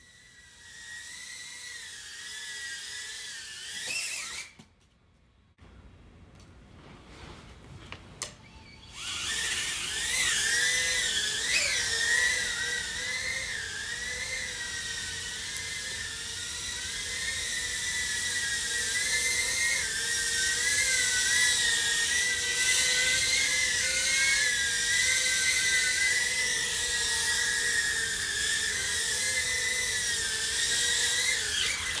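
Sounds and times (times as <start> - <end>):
quadcopter motors whining: 0.0 - 4.8, 8.2 - 32.0.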